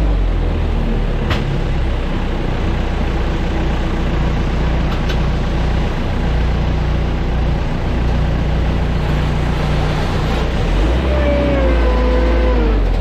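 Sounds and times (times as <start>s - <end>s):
airport ground machinery running: 0.0s - 13.0s.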